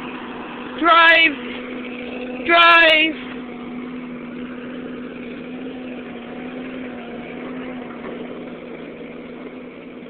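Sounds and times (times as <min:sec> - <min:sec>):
tractor engine hum: 0:00.0 - 0:10.0.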